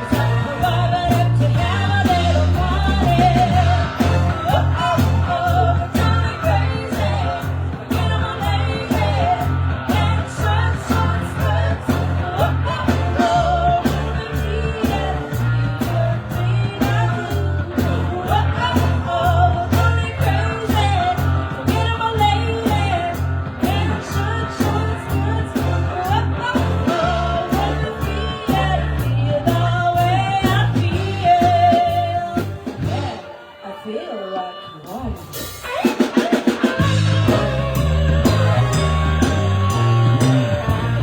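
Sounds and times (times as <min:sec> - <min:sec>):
live rock band playing: 0:00.0 - 0:41.0
person singing: 0:00.0 - 0:41.0.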